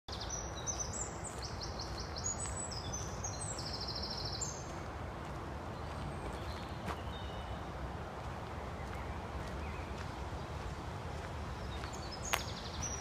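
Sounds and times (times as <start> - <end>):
songbirds trilling and chirping: 0.1 - 13.0.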